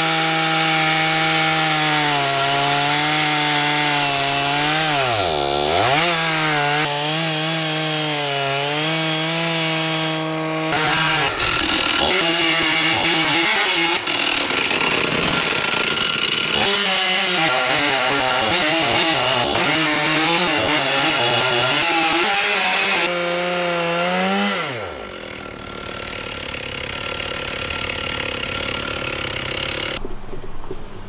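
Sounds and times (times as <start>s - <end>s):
chainsaw cutting log: 0.0s - 30.5s.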